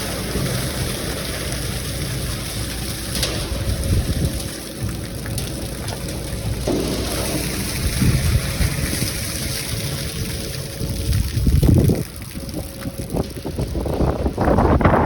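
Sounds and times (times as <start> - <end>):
diesel truck engine rumbling: 0.0 - 15.0
water splashing and running: 0.0 - 15.0.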